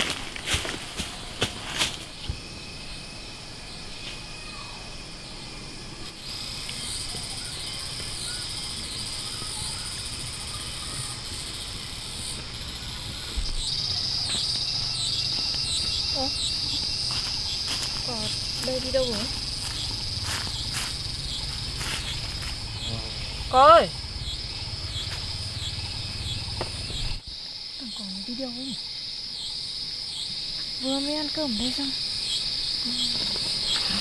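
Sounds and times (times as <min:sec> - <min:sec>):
insects shrilling: 0:00.0 - 0:34.0.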